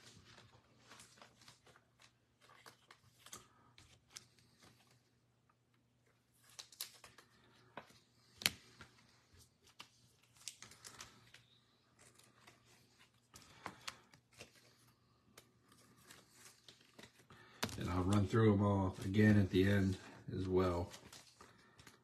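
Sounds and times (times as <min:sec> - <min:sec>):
cards rustling and clicking: 0:00.0 - 0:22.0.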